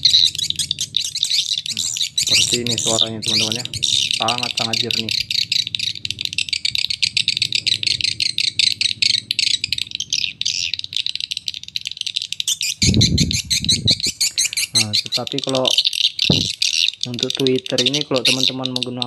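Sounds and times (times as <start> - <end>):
low rumbling bursts: 0.0 - 11.9, 12.8 - 17.7
shrill swiftlet twittering: 0.0 - 19.0.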